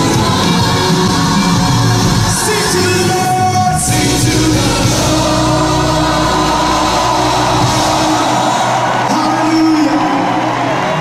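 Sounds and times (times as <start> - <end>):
gospel choir and band: 0.0 - 11.0.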